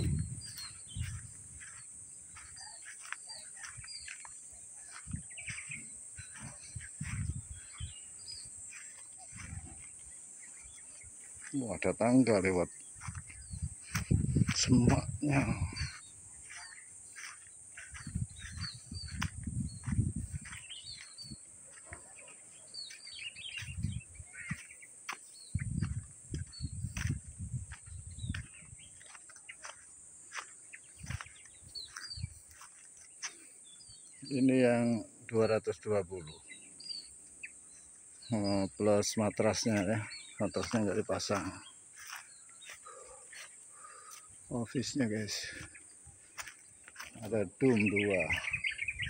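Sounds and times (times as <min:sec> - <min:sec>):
footsteps on grass: 0:00.0 - 0:34.9, 0:37.7 - 0:49.0
small birds chirping: 0:00.0 - 0:49.0.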